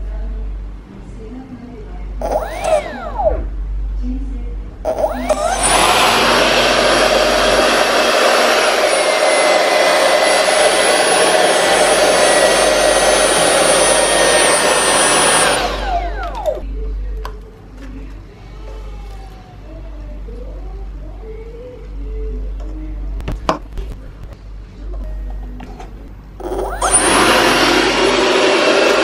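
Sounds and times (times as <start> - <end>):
electric ducted fan whining: 0.0 - 29.0.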